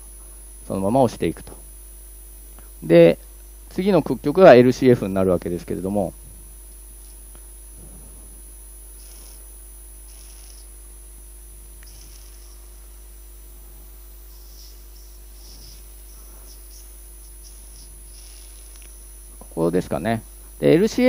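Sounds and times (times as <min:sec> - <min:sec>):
electrical equipment hum: 0:00.0 - 0:21.0.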